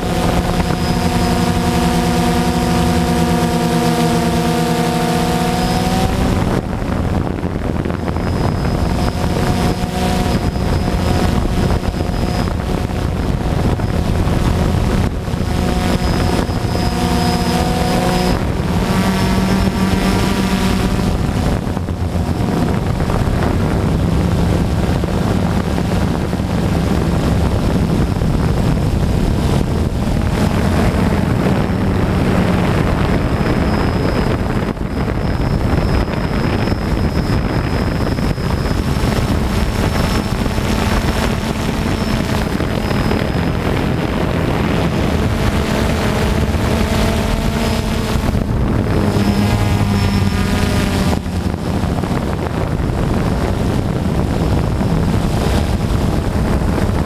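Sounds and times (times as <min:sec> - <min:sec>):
drone propellers whining: 0:00.0 - 0:57.0
wind buffeting microphone: 0:00.0 - 0:57.0.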